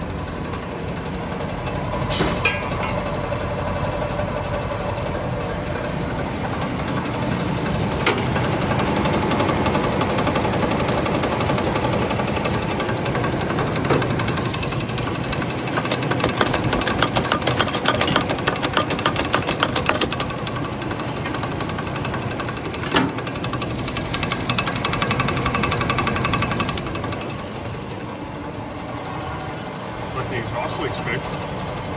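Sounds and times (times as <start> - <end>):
fast rattling pulse: 0.0 - 28.9
engine running through exhaust: 0.0 - 31.9.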